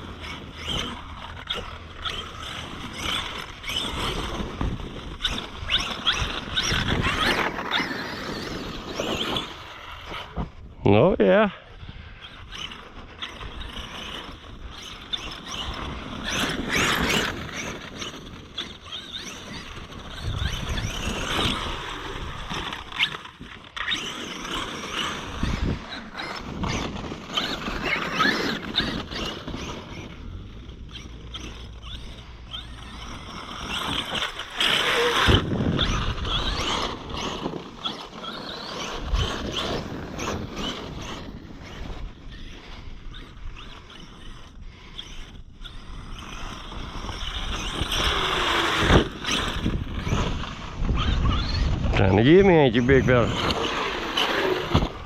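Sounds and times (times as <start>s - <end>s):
electric motor whining: 0.0s - 55.0s
tyres churning dirt: 0.0s - 55.0s.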